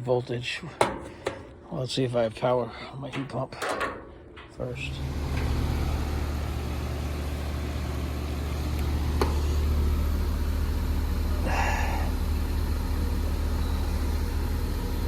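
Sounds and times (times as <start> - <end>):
heat pump hum: 0.0 - 15.0.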